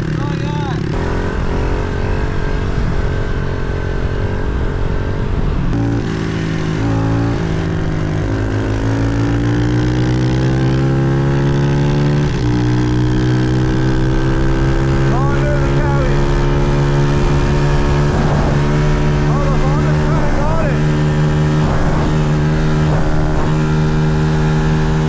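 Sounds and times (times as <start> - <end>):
pit bike engine revving: 0.0 - 25.0.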